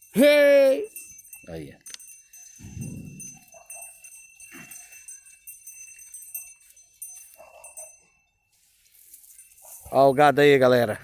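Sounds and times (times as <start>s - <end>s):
small bells jingling: 0.0s - 11.0s.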